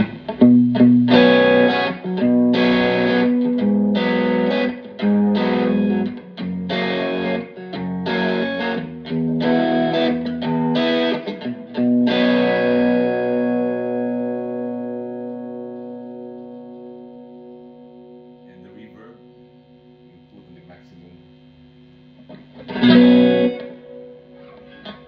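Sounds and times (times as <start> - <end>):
electric guitar chords strummed: 0.0 - 20.4, 21.6 - 25.0.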